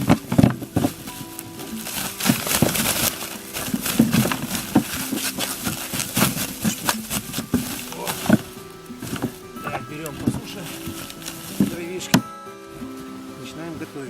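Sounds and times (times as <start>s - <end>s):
firewood knocking on snow: 0.0s - 13.1s.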